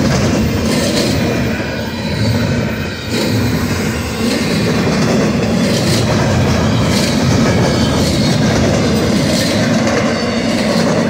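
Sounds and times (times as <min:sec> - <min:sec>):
steel train wheels rumbling on rail: 0:00.0 - 0:11.0.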